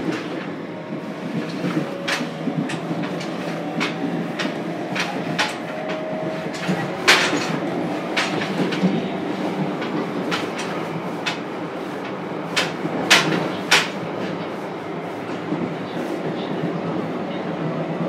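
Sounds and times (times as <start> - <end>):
train wheels rumbling on rail: 0.0 - 18.0
wheels clacking on track: 0.0 - 18.0.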